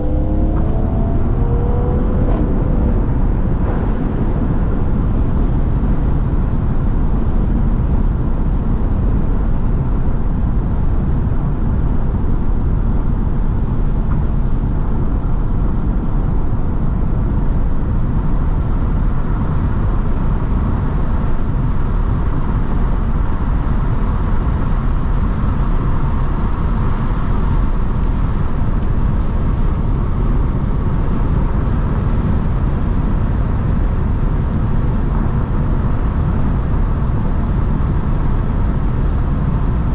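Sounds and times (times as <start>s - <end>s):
car cruising with engine drone: 0.0s - 39.9s.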